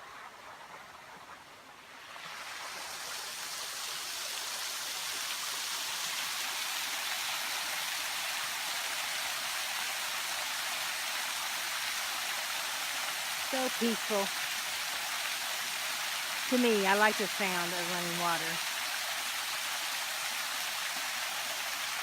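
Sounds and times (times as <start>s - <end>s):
creek rushing over rocks: 1.8s - 22.0s.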